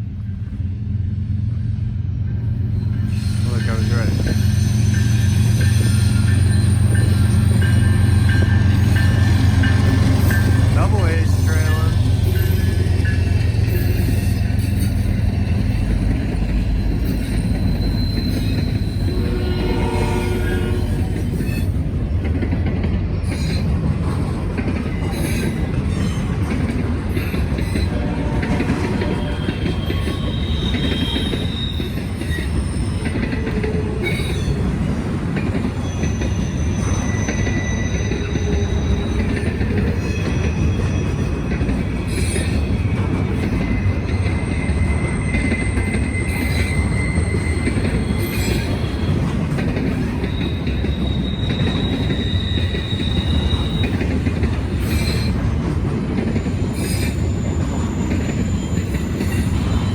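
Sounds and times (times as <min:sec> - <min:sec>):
train wheels rumbling on rail: 0:00.0 - 0:59.9
high wheel squeals: 0:02.6 - 0:21.8, 0:25.0 - 0:55.6, 0:56.3 - 0:59.9.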